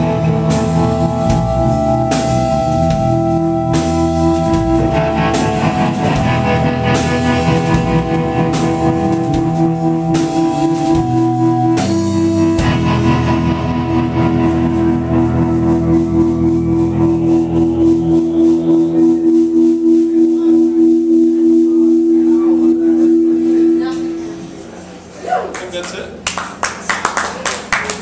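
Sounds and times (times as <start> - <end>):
live rock band playing: 0.0 - 25.1.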